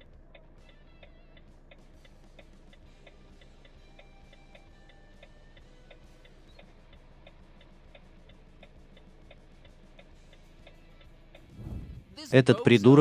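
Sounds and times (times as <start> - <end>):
clock-like ticking: 0.0 - 11.6
faint held music tones: 0.0 - 13.0.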